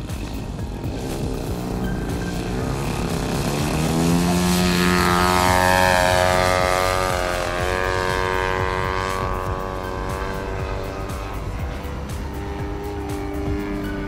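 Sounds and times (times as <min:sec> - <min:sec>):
model plane engine at full throttle: 0:00.0 - 0:14.0.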